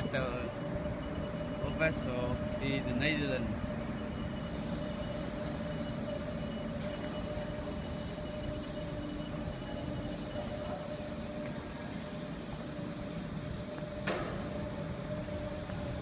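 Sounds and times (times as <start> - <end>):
crane machinery low drone: 0.0 - 16.0
mid-pitched machinery whine: 0.0 - 16.0.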